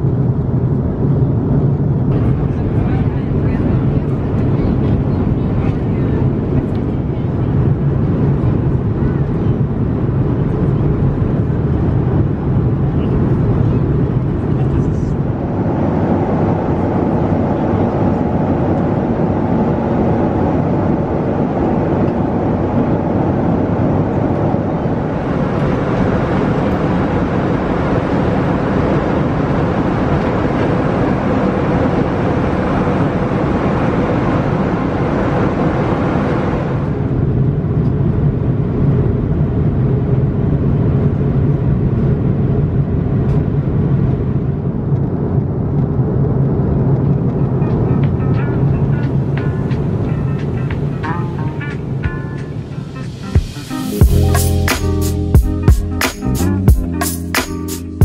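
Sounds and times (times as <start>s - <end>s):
airplane cabin air rush and engine drone: 0.0s - 58.0s.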